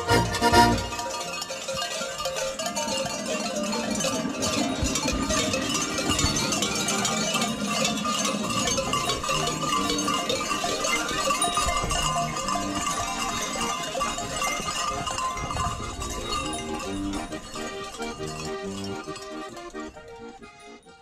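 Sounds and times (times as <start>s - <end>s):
large bells clanking and jangling: 0.0s - 21.0s.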